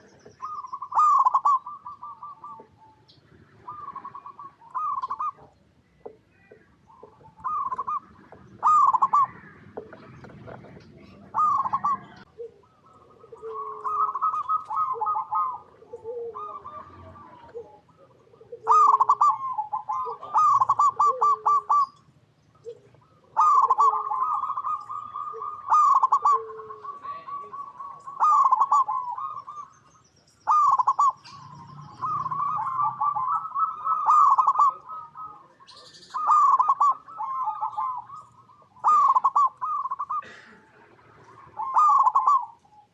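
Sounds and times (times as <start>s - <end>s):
doves cooing trilled notes: 0.0s - 42.9s.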